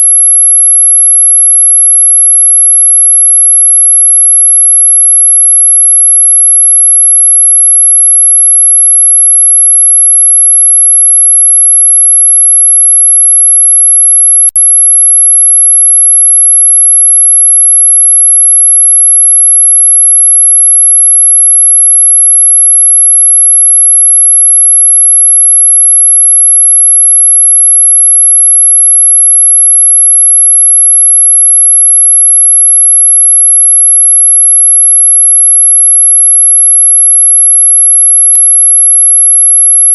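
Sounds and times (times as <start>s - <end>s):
high-pitched sine tone: 0.0s - 39.9s.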